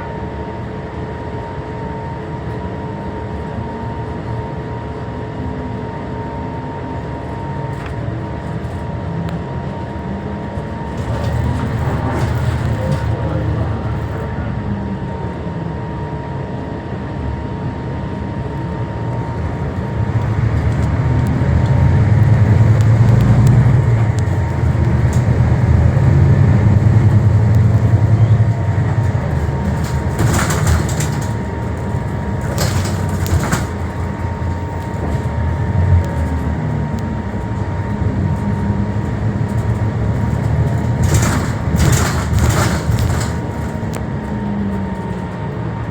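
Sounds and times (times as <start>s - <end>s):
bus diesel engine rumble: 0.0s - 15.8s, 16.4s - 45.9s.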